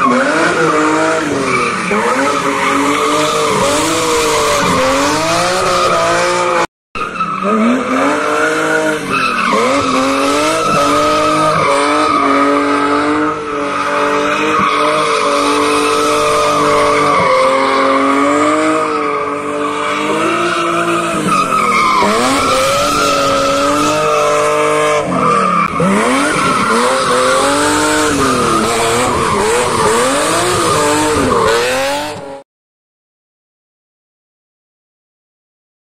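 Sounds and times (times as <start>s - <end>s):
car engine revving: 0.0s - 32.4s.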